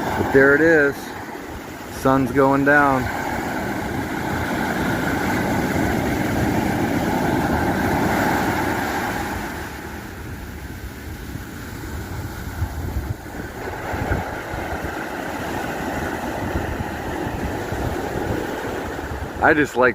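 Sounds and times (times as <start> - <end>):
surf washing on beach: 0.0 - 19.9.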